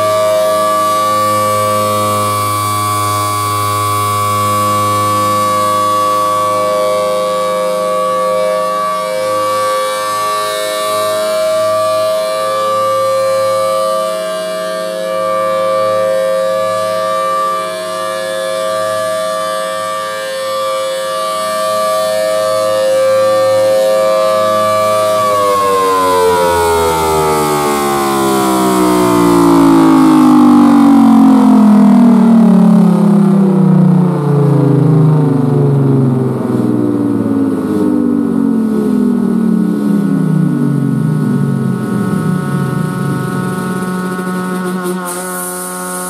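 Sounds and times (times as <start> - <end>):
rotating warning siren: 0.0 - 46.0.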